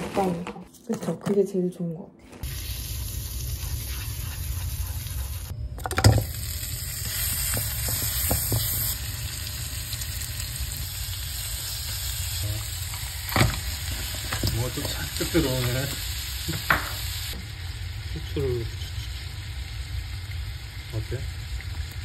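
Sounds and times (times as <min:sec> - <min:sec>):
meat sizzling in oil: 0:02.4 - 0:05.5, 0:06.1 - 0:22.0.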